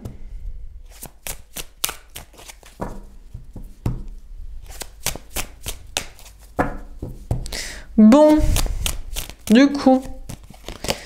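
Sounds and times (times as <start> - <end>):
cards being shuffled: 0.8 - 7.6, 8.2 - 11.0.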